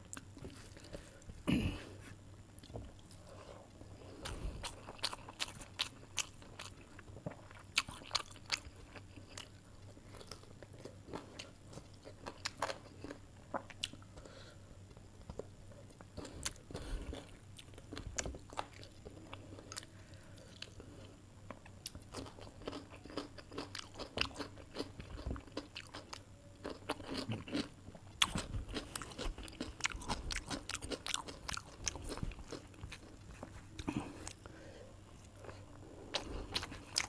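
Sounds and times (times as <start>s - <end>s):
person chewing and crunching food: 0.1s - 37.0s.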